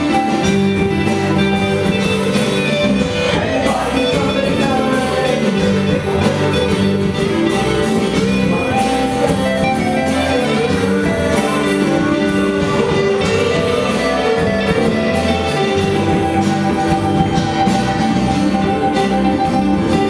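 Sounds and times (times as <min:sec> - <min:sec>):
drum kit beat: 0:00.0 - 0:20.0
electric and acoustic guitars: 0:00.0 - 0:20.0.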